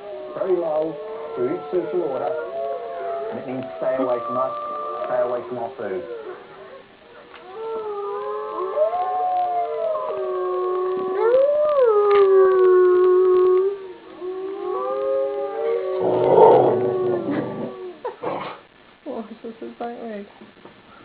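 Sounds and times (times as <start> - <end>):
dog howling: 0.0 - 18.1
chorus of long howls: 0.0 - 18.2.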